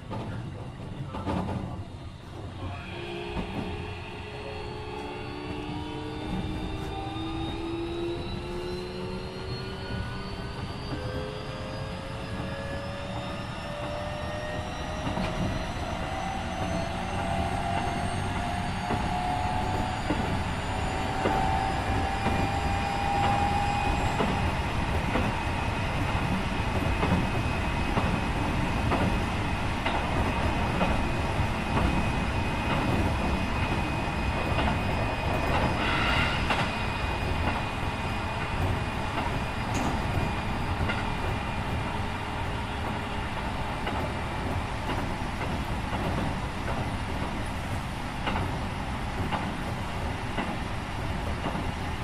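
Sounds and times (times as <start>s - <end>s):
electric train running noise: 1.1s - 52.0s.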